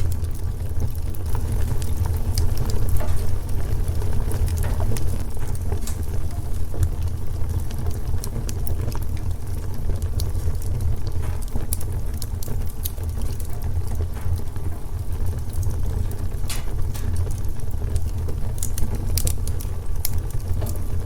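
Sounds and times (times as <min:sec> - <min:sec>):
fire crackles and pops: 0:00.0 - 0:21.0
wood fire rumbling: 0:00.0 - 0:21.0.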